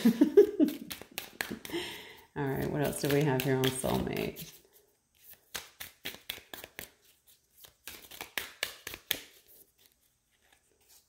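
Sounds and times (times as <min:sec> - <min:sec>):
cards being shuffled: 0:00.4 - 0:11.0.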